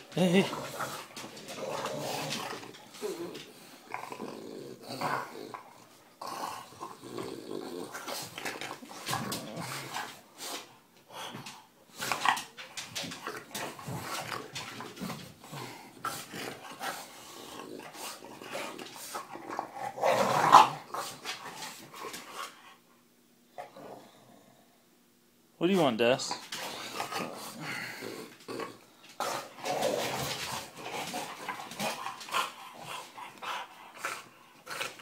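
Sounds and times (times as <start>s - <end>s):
puppy growling in play: 0.0s - 22.9s, 23.5s - 24.9s, 26.4s - 35.0s.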